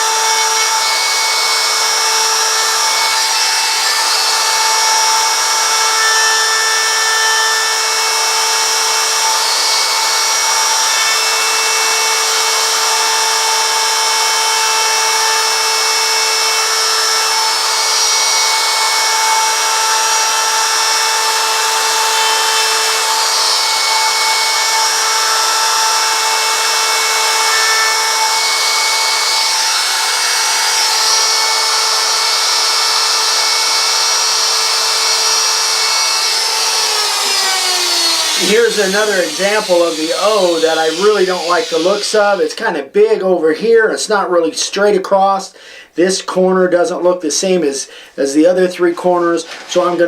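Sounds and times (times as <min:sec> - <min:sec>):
rotary tool whining cutting wood: 0:00.0 - 0:42.6.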